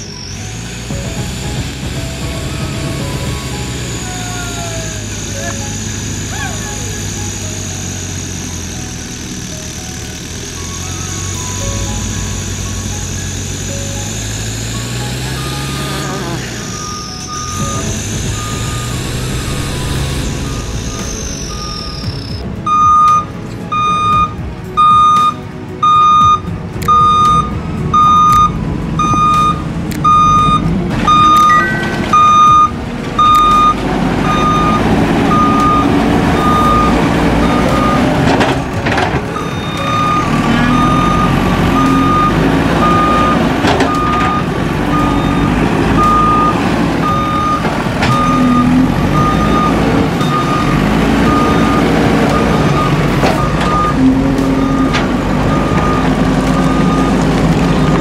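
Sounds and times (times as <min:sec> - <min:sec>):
diesel engine running: 0:00.0 - 0:58.0
reversing alarm beeping: 0:00.0 - 0:58.0.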